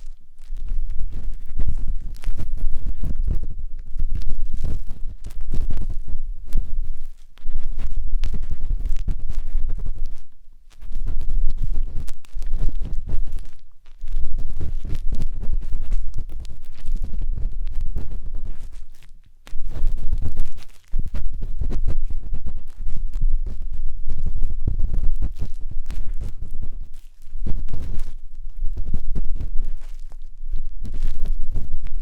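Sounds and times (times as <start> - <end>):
matchstick scratching microphone: 0.0 - 32.0.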